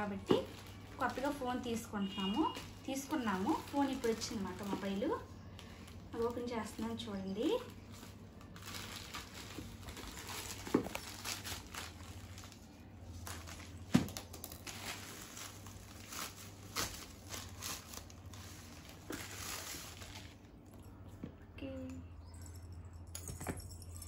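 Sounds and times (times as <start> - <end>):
plastic mailer bag crinkling: 0.0 - 20.6.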